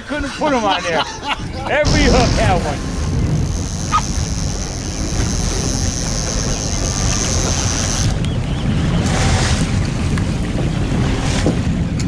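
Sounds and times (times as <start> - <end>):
wind buffeting microphone: 1.2 - 12.0
sea washing around hull: 1.3 - 12.0
boat engine running: 1.7 - 12.0.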